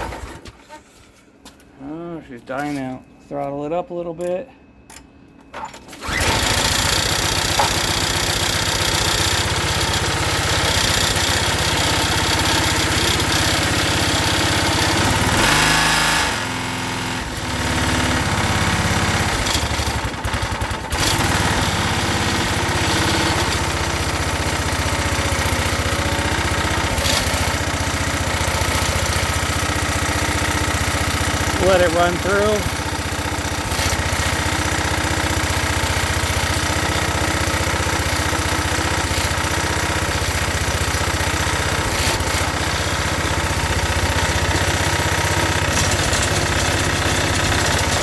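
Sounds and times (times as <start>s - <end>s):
small engine running: 5.9s - 48.0s.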